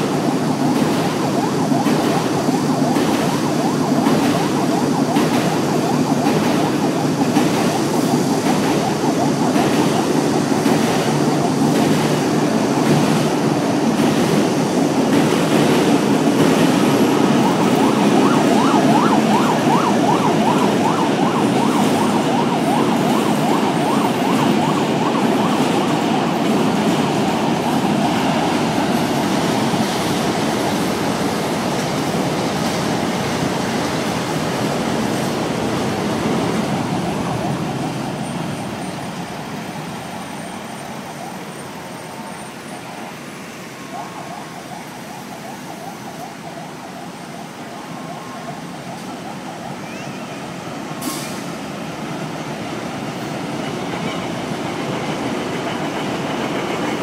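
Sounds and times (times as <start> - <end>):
high-speed train passing: 0.0 - 57.0
road traffic: 0.0 - 57.0
train rumbling across steel bridge: 0.0 - 57.0.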